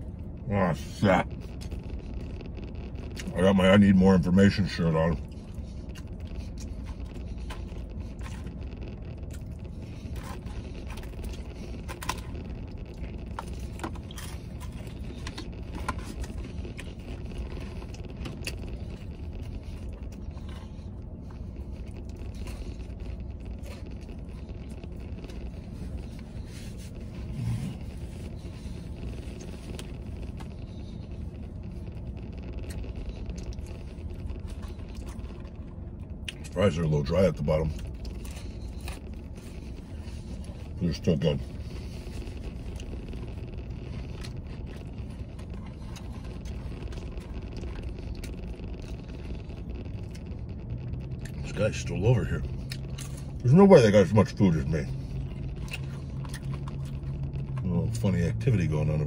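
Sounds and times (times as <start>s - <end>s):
low rumble inside truck cab: 0.0s - 59.0s
chewing: 4.5s - 36.6s, 37.7s - 51.6s, 52.4s - 53.6s, 54.8s - 58.1s.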